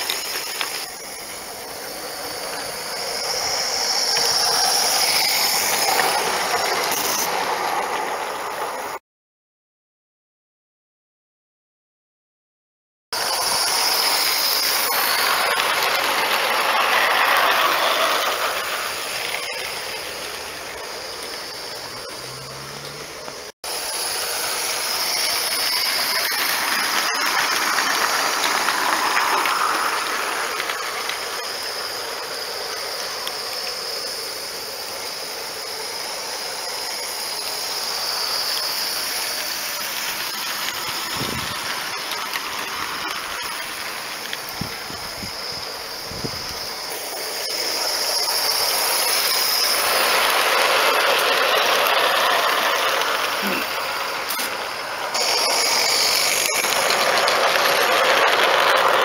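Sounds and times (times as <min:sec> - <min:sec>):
small wheels rattling on track: 0:00.0 - 0:09.0, 0:13.2 - 0:59.0.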